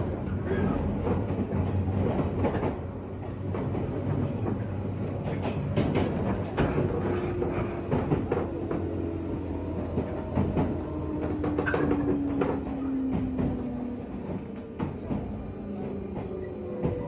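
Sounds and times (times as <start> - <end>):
train running noise: 0.0 - 17.0
wheel clacks at rail joints: 0.3 - 17.0.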